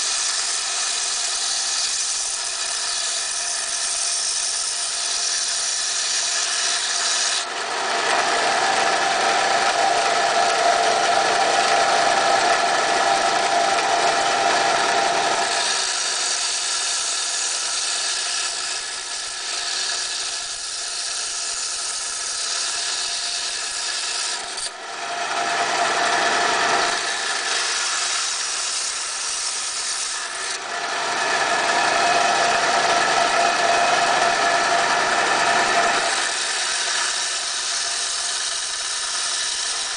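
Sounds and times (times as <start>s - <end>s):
band saw cutting coral: 0.0s - 39.9s.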